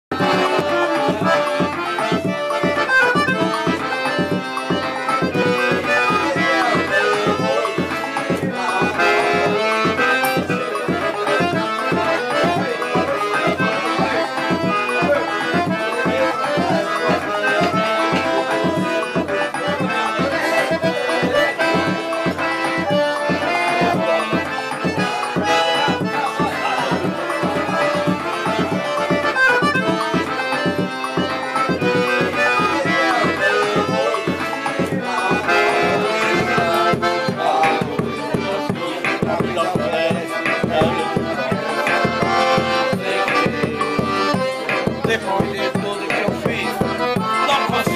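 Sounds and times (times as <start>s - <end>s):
piano accordion playing a tune: 0.1s - 47.9s.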